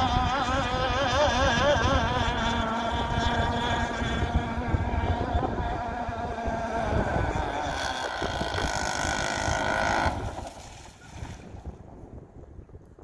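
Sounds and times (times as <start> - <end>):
two-stroke boat engine revving: 0.0 - 10.8.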